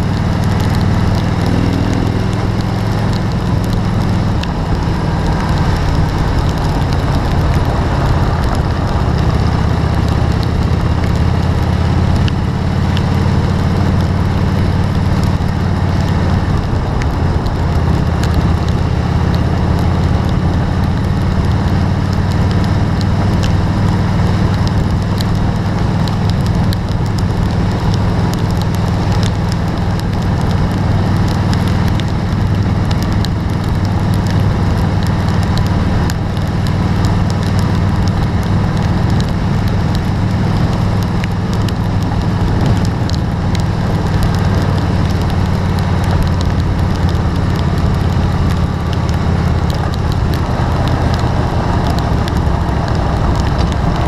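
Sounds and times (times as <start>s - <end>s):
rain ticking on windshield: 0.0s - 54.0s
vehicle rumbling on road: 0.0s - 54.0s.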